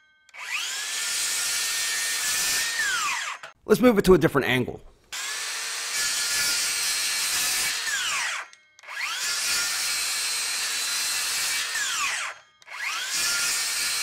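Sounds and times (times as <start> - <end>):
circular saw cutting board: 0.3 - 3.6, 5.2 - 14.0.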